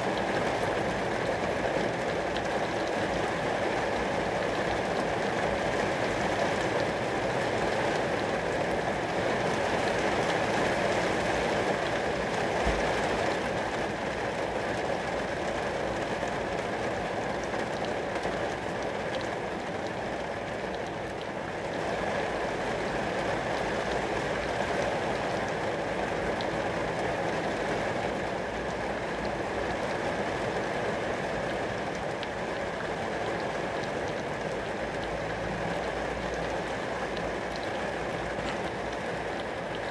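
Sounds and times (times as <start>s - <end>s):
rain falling on glass: 0.0s - 39.9s.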